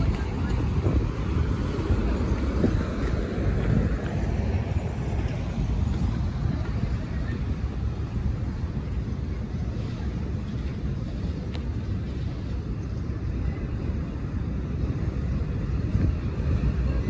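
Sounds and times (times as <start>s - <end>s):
distant road traffic rumble: 0.0s - 17.0s
wind buffeting microphone: 0.0s - 17.0s.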